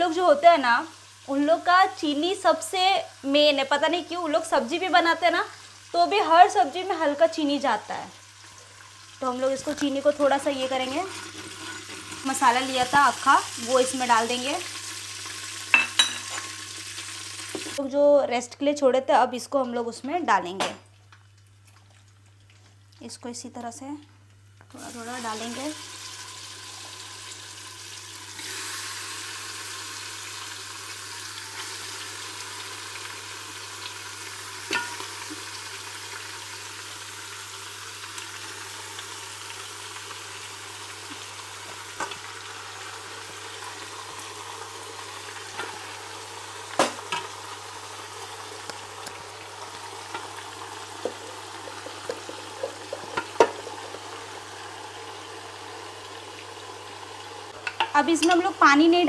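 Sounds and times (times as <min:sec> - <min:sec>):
meat sizzling in hot oil: 0:00.0 - 0:17.8, 0:24.7 - 0:59.0.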